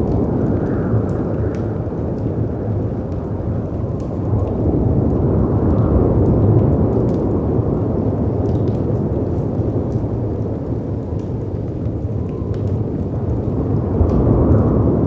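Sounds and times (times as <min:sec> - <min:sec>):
deep rumble of wind: 0:00.0 - 0:15.0.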